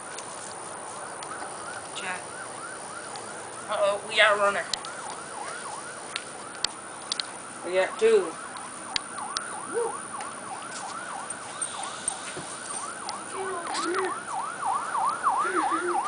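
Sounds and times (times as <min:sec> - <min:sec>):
emergency siren yelping: 0:00.0 - 0:16.0.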